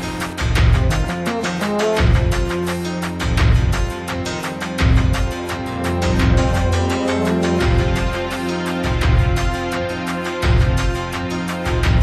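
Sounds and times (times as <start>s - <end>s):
background music with steady pulse: 0.0s - 12.0s.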